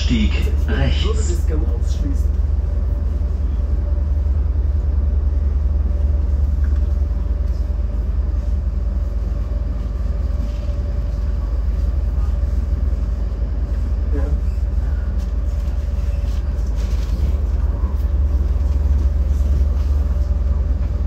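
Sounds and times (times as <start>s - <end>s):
faint train whine: 0.0s - 21.0s
train low rumble: 0.0s - 21.0s.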